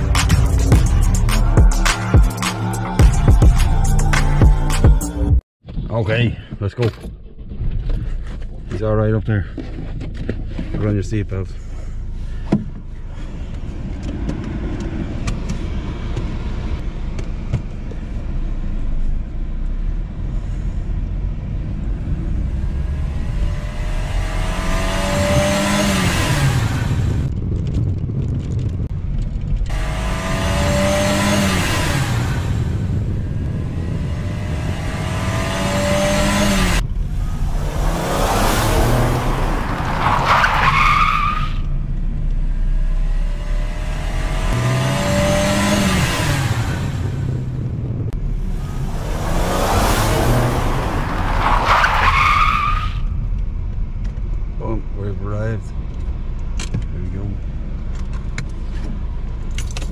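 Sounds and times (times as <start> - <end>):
car engine accelerating: 9.4 - 59.9.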